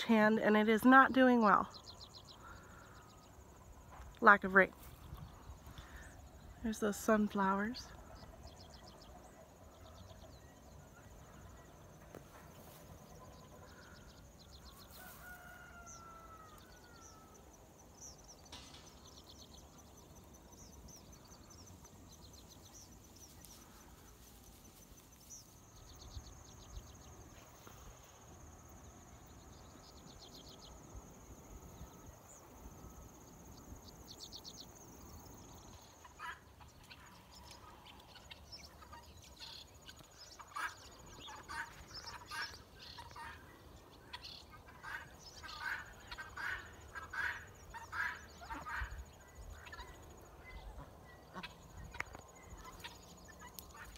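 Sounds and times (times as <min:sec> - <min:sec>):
distant bird calls: 0:00.0 - 0:53.9
insects trilling: 0:00.0 - 0:53.9.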